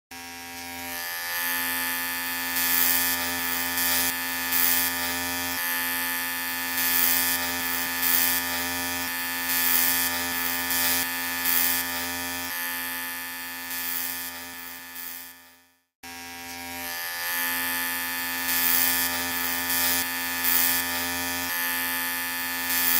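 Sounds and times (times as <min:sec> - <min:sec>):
clippers rasping through hair: 0:00.1 - 0:22.9
electric hair clippers buzzing: 0:00.1 - 0:22.9.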